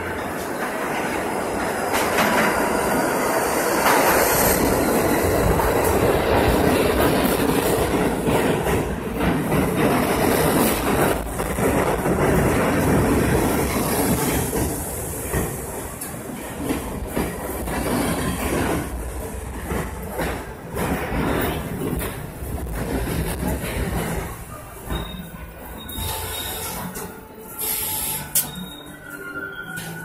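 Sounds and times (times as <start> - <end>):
subway train passing: 0.0 - 30.0.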